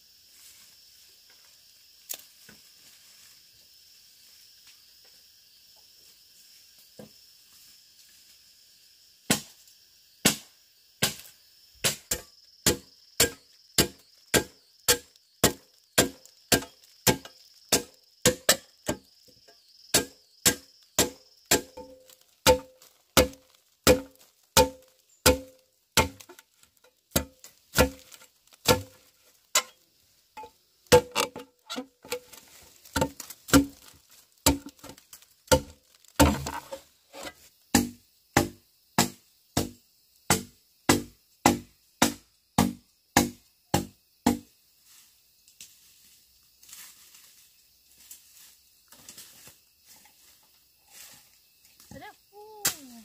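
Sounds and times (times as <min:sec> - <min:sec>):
insect chorus: 0:00.0 - 0:53.0.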